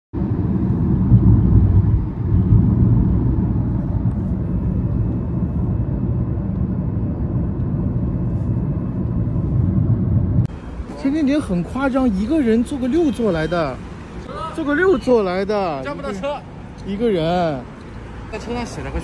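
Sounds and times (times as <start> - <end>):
car road and engine noise: 0.1 - 19.0.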